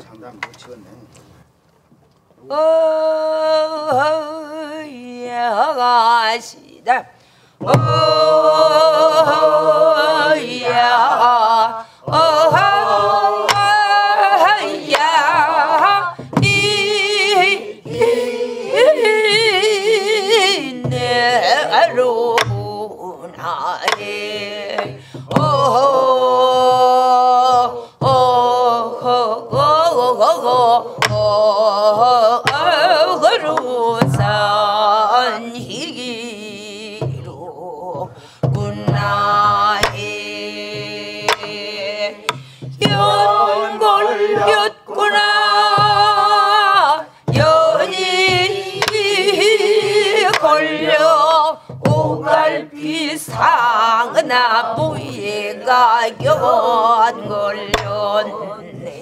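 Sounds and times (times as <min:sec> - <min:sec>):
folk singing with heavy vibrato: 0:02.4 - 0:59.0
barrel drum strokes: 0:07.6 - 0:59.0.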